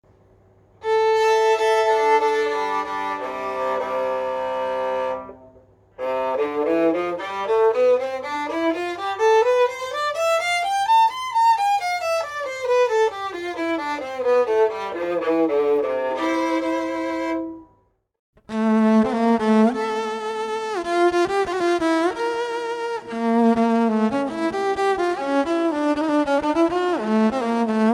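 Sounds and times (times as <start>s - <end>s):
bowed electric violin: 0.8s - 17.7s, 18.4s - 27.9s.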